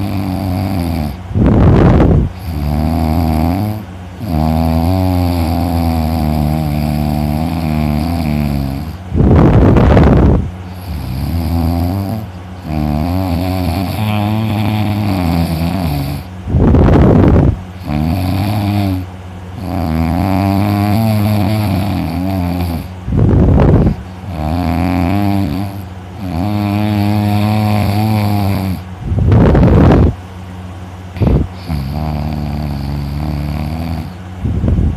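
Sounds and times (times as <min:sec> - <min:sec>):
person snoring heavily: 0:00.0 - 0:30.1, 0:31.1 - 0:34.2
wavering breathing drone: 0:00.0 - 0:30.2, 0:31.0 - 0:34.8.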